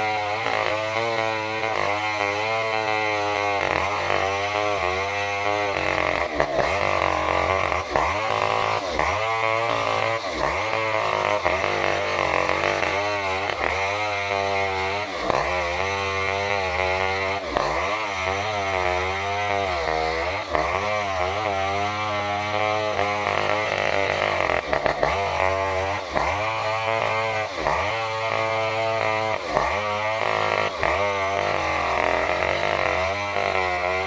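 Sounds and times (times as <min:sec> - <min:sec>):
chainsaw cutting log: 0:00.0 - 0:34.0.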